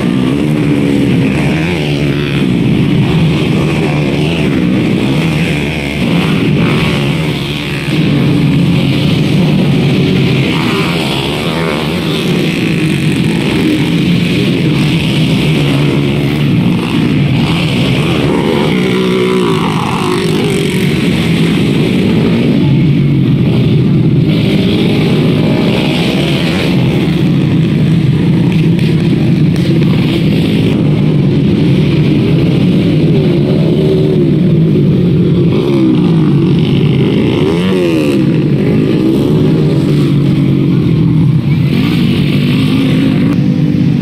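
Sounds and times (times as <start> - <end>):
racing motorcycles revving: 0.0 - 44.0.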